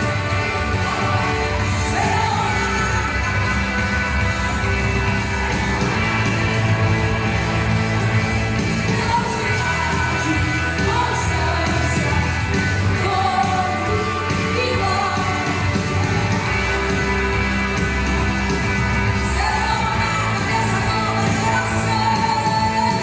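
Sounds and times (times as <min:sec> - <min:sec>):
worship song with band: 0:00.0 - 0:23.0.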